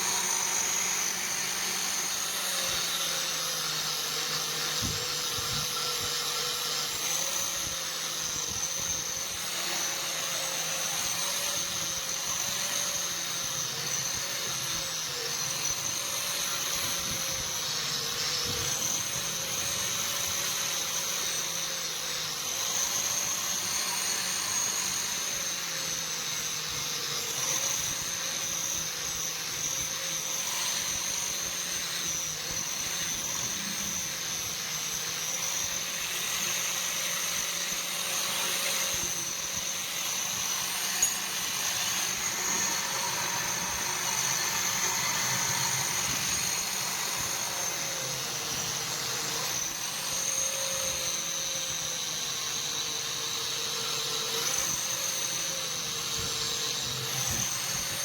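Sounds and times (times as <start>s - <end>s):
electric motor whining hum: 0.0s - 58.0s.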